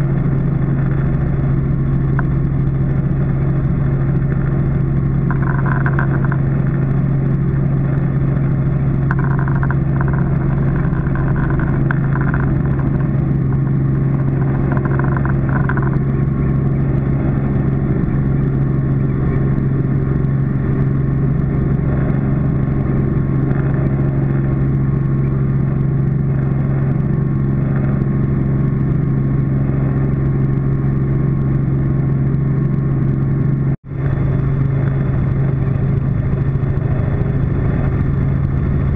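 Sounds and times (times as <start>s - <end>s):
helicopter engine and rotors drone: 0.0s - 38.9s.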